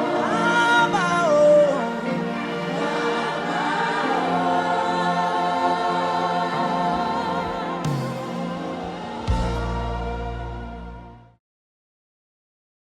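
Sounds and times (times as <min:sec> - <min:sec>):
choir singing gospel music: 0:00.0 - 0:11.4.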